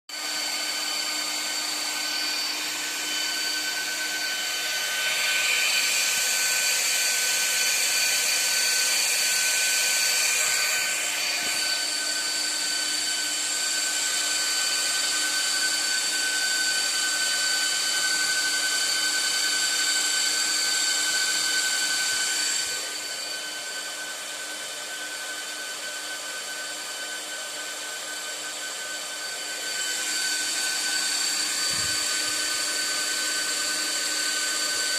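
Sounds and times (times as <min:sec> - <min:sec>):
cooling fans whirring and whining: 0:00.2 - 0:24.0, 0:26.9 - 0:34.9.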